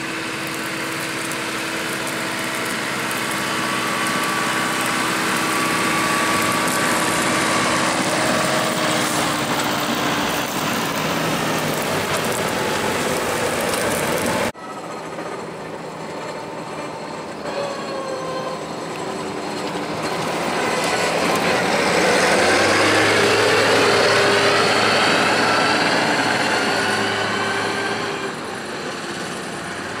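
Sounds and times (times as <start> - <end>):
combine harvester driving past: 0.0 - 30.0
machine whine sliding in pitch: 0.0 - 30.0.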